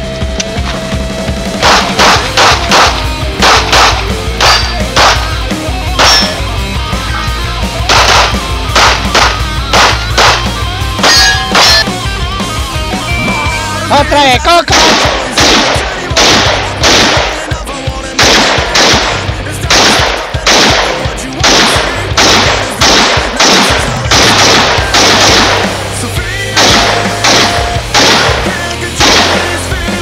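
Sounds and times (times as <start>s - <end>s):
background music: 0.0s - 30.0s
rifle shots: 1.6s - 6.6s, 7.7s - 12.0s, 14.6s - 30.0s.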